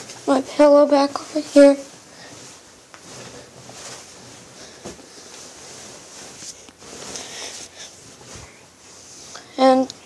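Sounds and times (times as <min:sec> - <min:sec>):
bedding rustling: 0:00.0 - 0:10.0
steady hiss: 0:00.0 - 0:10.0.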